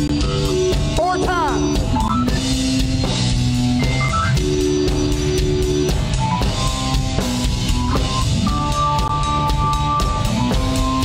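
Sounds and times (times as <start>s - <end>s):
drum kit steady beat: 0.0s - 11.0s
electric bass: 0.0s - 11.0s.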